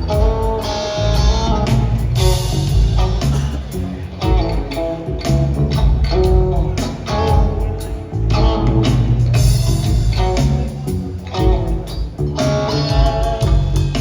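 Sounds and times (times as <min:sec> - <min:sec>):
bass guitar: 0:00.0 - 0:14.0
drums: 0:00.0 - 0:14.0
electric guitar chords: 0:00.0 - 0:14.0.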